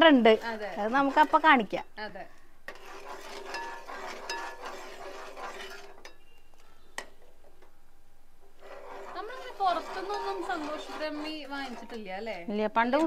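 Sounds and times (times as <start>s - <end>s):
spoon scraping pan: 0.0s - 7.7s, 8.5s - 13.0s.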